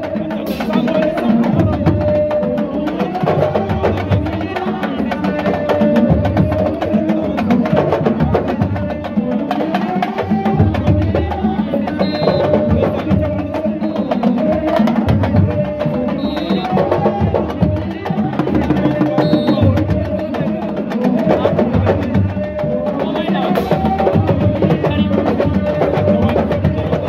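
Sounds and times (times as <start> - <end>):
fast drumming: 0.0 - 27.0
voices singing or chanting: 0.0 - 27.0.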